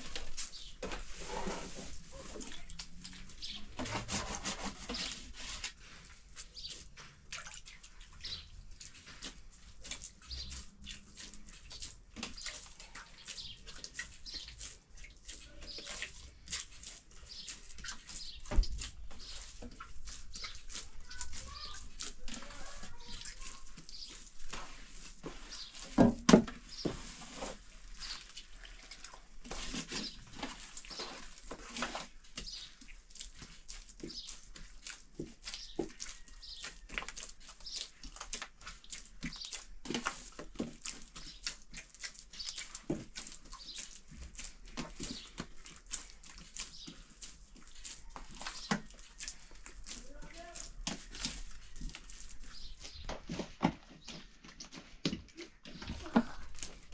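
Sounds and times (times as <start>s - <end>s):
dough being kneaded by hand: 0.0s - 56.9s.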